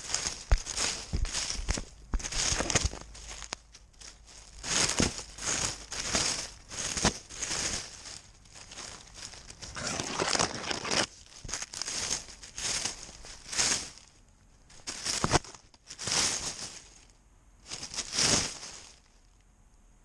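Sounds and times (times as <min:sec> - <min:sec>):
fur and harness scuffing: 0:00.0 - 0:19.1.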